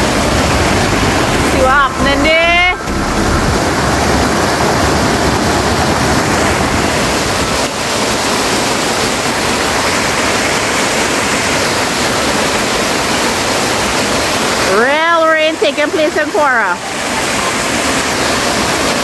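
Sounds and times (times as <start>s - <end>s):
water gushing down stony channel: 0.0s - 19.0s
waterfall pouring into pool: 0.0s - 19.0s.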